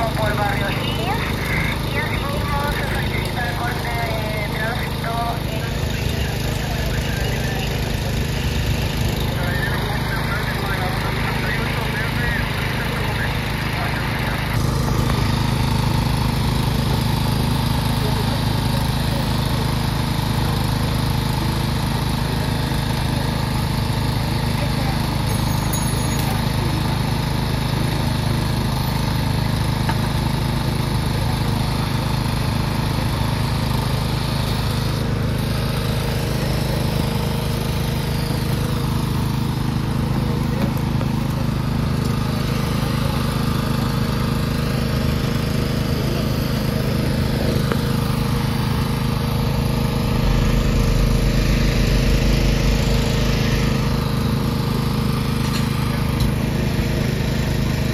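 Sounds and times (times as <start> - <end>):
engine droning: 0.0 - 57.9.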